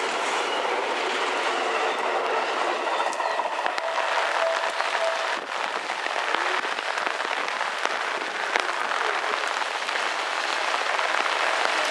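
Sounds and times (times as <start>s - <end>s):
rain pattering: 0.0s - 11.9s.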